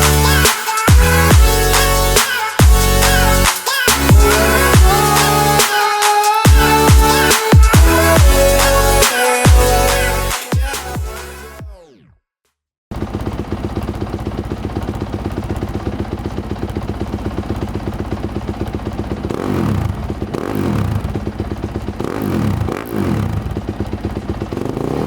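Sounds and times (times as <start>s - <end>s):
dirt bike engine revving: 0.0s - 11.5s, 12.9s - 25.0s.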